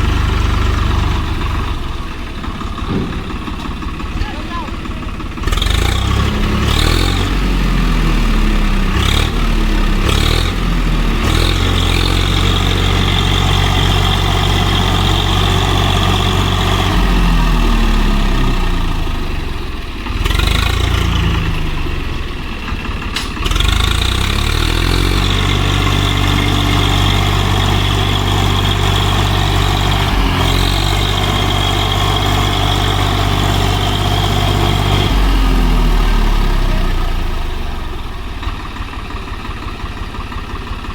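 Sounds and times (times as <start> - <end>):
diesel tractor engine straining: 0.0 - 40.9.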